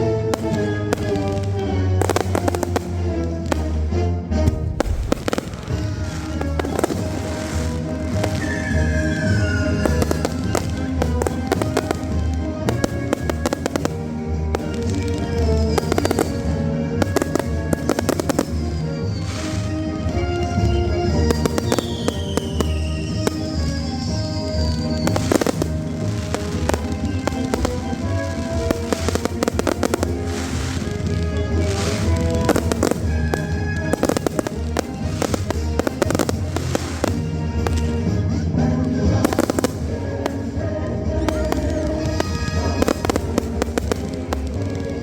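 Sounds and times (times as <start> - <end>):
fireworks bangs and crackles: 0.0 - 45.0
music playing: 0.0 - 45.0.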